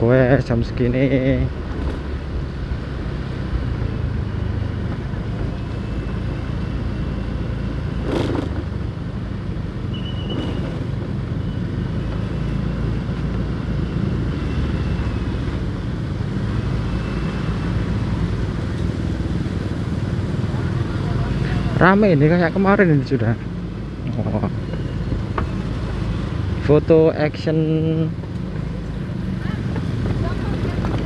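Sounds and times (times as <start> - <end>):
motorcycle running: 0.0 - 31.0.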